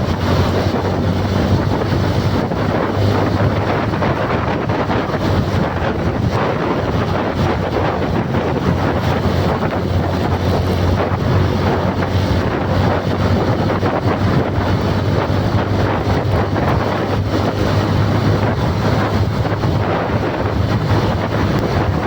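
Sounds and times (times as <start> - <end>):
low hum: 0.0 - 22.0
wind buffeting microphone: 0.0 - 22.0.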